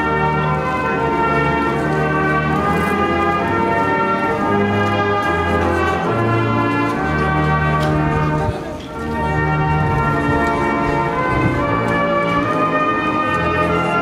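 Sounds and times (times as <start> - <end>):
military brass band playing: 0.0 - 14.0.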